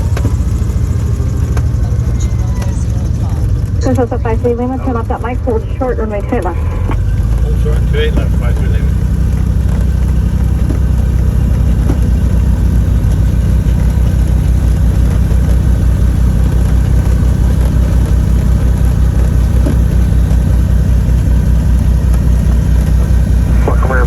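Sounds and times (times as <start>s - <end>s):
propeller plane engines droning: 0.0s - 24.0s.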